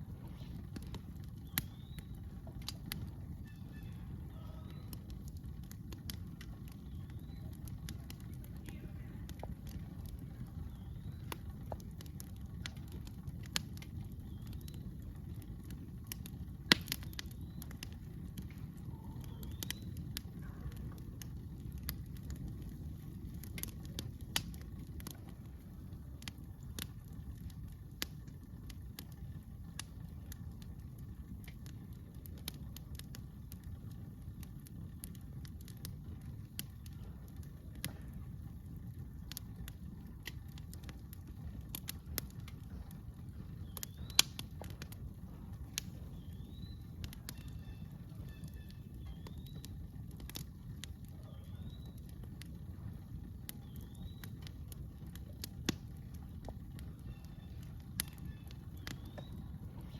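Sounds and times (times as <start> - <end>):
campfire crackling and popping: 0.0 - 59.9
low steady rumble: 0.0 - 59.9.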